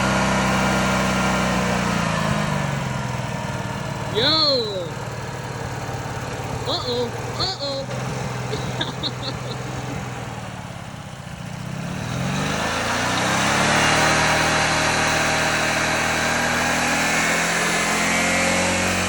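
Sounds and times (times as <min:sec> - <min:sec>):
lawn mower engine revving: 0:00.0 - 0:19.0.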